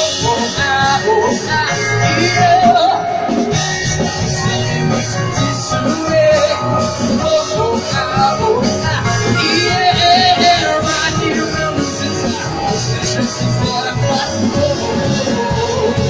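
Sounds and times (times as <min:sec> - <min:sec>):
electric guitar: 0:00.0 - 0:16.0
keyboard: 0:00.0 - 0:16.0
live rock band playing: 0:00.0 - 0:16.0.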